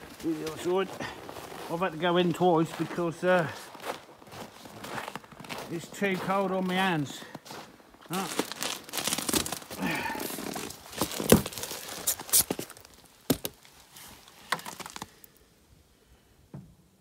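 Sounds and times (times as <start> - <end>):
rustling crinkling handling noise: 0.0 - 15.3.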